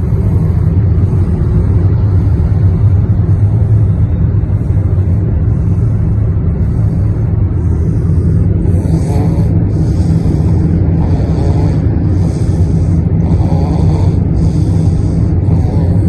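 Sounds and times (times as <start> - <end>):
baby snoring: 0.0 - 16.0.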